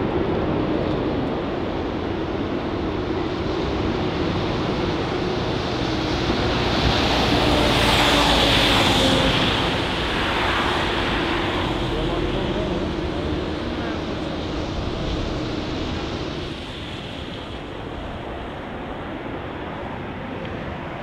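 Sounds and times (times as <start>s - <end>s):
jet engines rumbling and hissing: 0.0s - 21.0s
wind on microphone: 0.0s - 21.0s.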